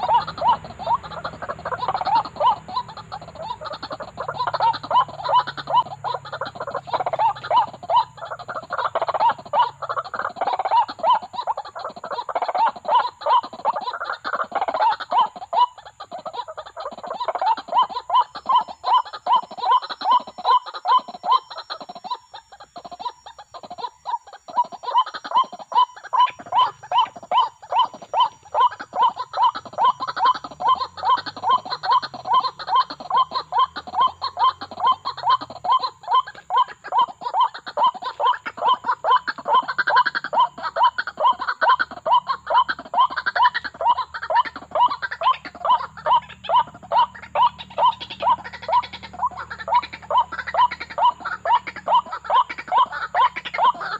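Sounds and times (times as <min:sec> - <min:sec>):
waterhen calling: 0:00.0 - 0:53.9.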